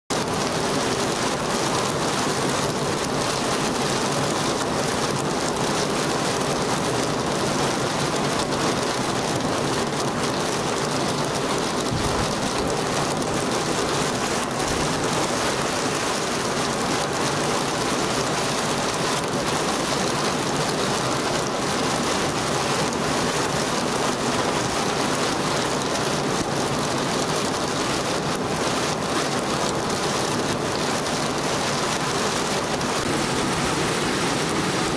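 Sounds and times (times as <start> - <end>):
heavy rain on pavement and roofs: 0.1 - 34.9.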